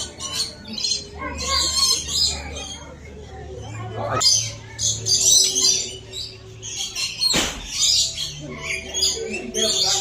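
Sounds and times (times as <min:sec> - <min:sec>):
parrots chattering and screeching: 0:00.0 - 0:10.0.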